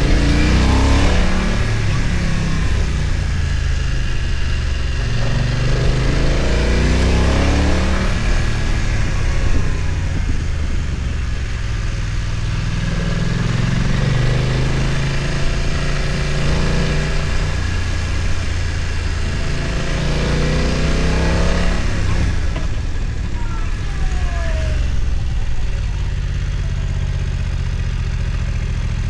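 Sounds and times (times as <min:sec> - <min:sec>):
motorcycle engine under load: 0:00.0 - 0:29.0.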